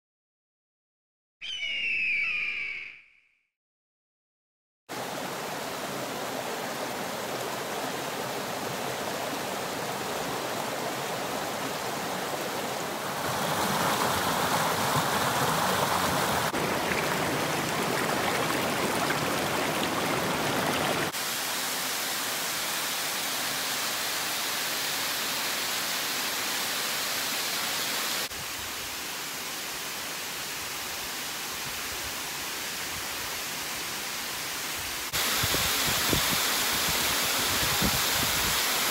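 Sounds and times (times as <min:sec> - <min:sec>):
mountain stream rushing: 0:04.9 - 0:38.9
waterfall: 0:04.9 - 0:38.9.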